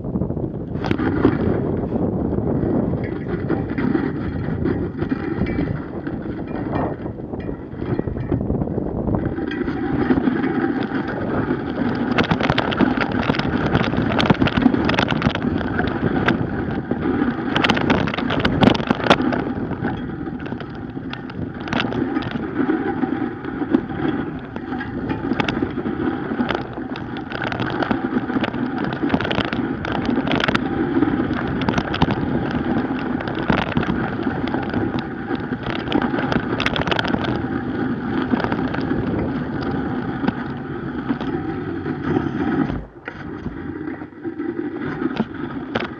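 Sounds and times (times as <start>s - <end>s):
bike tyre rolling on snow: 0.0s - 45.9s
snow crunches and clicks: 0.0s - 45.9s.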